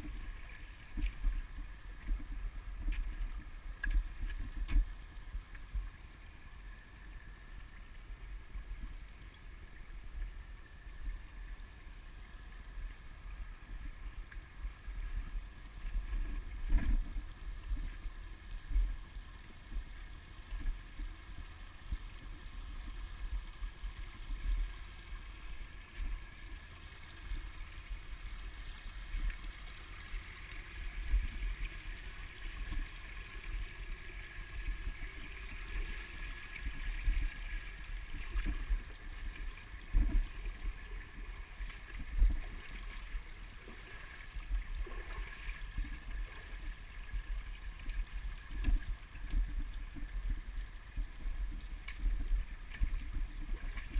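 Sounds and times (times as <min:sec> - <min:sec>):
creek trickling over rocks: 0:00.0 - 0:53.9.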